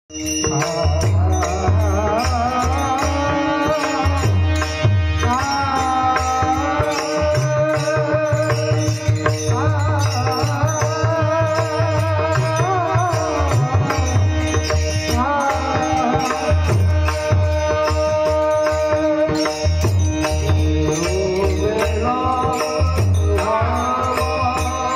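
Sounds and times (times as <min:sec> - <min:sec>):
devotional melody with wavering pitch: 0:00.1 - 0:24.9.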